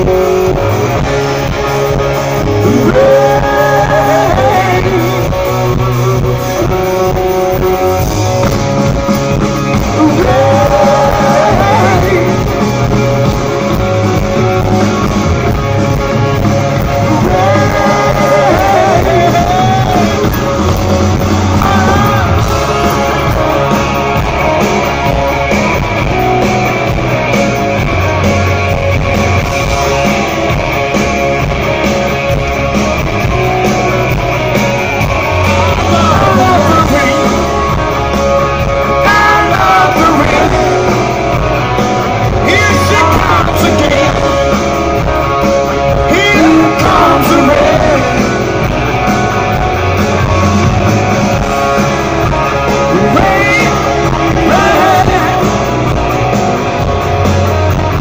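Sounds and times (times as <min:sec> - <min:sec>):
person singing: 0:00.0 - 0:07.9, 0:08.9 - 0:13.2, 0:16.0 - 0:28.8, 0:34.4 - 0:58.0
distorted electric guitars: 0:00.0 - 0:58.0
live hard rock band: 0:00.0 - 0:58.0.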